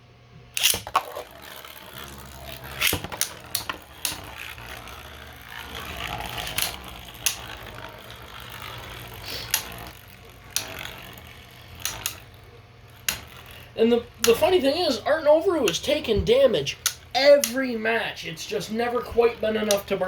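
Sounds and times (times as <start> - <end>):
spinning tops whirring: 0.4 - 20.0
spinning tops clacking together: 0.5 - 20.0.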